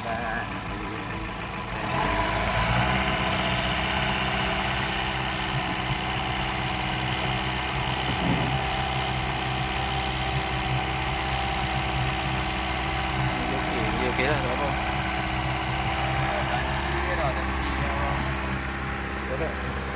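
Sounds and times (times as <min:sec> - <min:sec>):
boat engine idling: 0:00.0 - 0:19.9.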